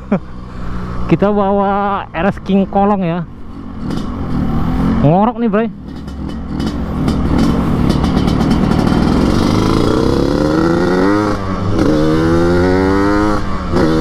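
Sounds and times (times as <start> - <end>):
two-stroke motorcycle accelerating: 0.0 - 14.0.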